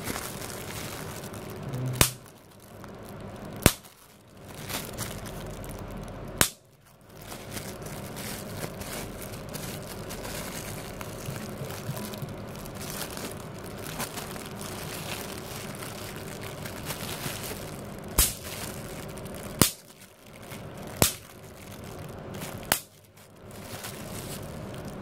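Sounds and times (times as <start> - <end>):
bubble wrap bubbles popping: 0.0 - 25.0
bubble wrap crinkling: 0.0 - 25.0.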